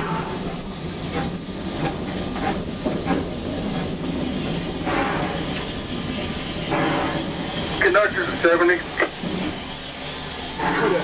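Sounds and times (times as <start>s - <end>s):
steam hiss: 0.0s - 11.0s.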